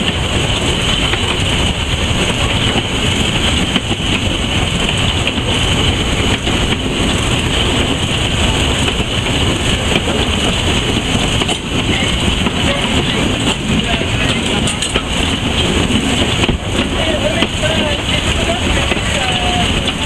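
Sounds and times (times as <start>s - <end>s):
steam locomotive running: 0.0s - 20.0s.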